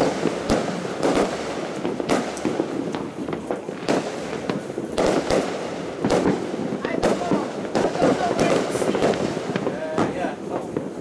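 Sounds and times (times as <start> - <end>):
fireworks banging: 0.0 - 11.0
fireworks crackling: 0.0 - 11.0.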